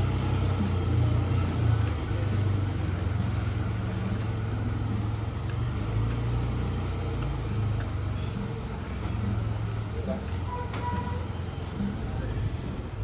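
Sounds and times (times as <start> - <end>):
motor traffic rumble: 0.0 - 13.0.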